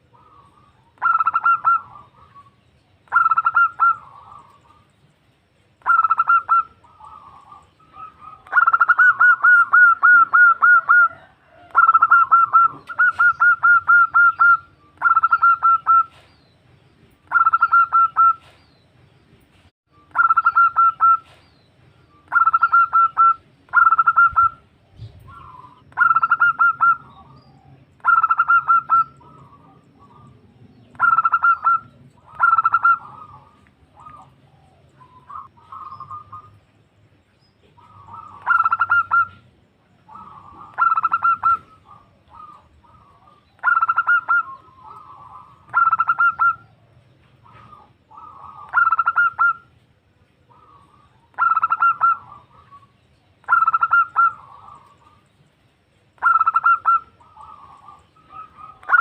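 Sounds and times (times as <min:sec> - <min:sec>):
dove calling: 0:00.0 - 0:18.9, 0:19.9 - 0:59.0.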